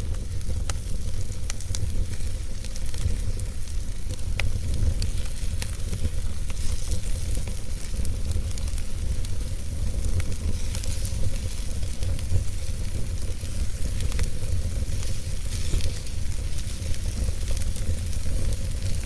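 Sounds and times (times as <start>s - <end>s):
low rumble and hiss of flames: 0.0s - 19.0s
wood fire crackling: 0.0s - 19.0s.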